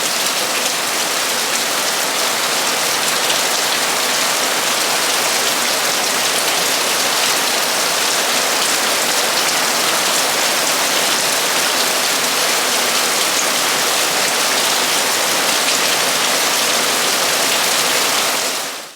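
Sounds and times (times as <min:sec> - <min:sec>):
heavy rain on a metal roof: 0:00.0 - 0:18.9.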